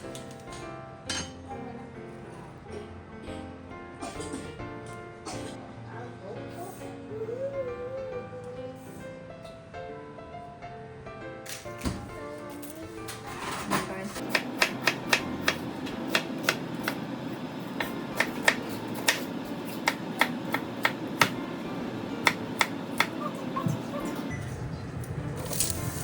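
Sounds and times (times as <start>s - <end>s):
soft background music: 0.0s - 26.0s.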